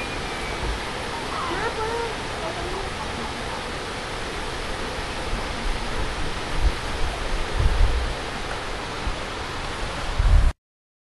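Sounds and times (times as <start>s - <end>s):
rushing outdoor hiss: 0.0s - 10.6s.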